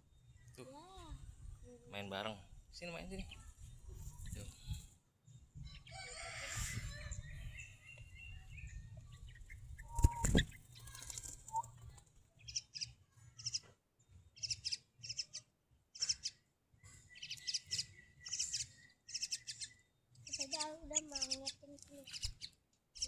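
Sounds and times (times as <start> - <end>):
small bird chirping: 2.8 - 4.9, 5.6 - 23.0.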